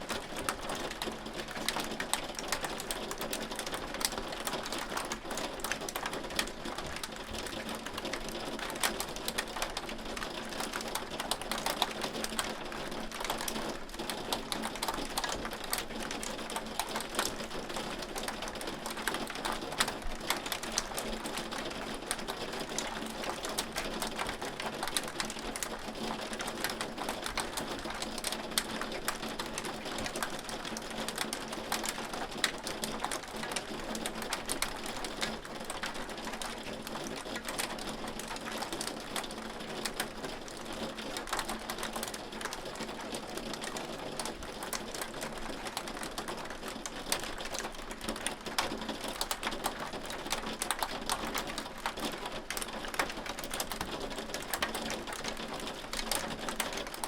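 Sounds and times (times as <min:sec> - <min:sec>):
hail pattering on a surface: 0:00.0 - 0:57.0.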